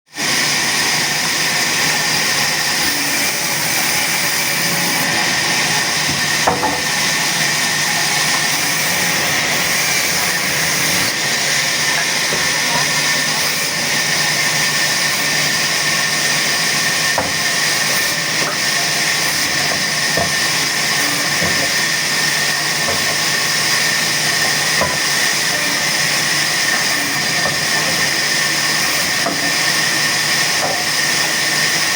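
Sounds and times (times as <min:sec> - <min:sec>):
woodcutting machine running: 0:00.1 - 0:31.9.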